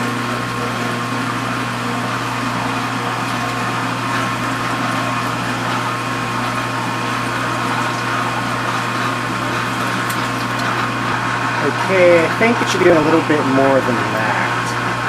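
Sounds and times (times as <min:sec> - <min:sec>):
dishwasher motor hum: 0:00.0 - 0:15.0.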